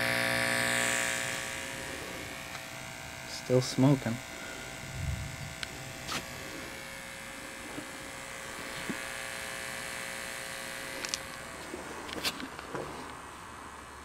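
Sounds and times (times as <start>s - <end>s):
speaker buzzing: 0.0s - 14.0s.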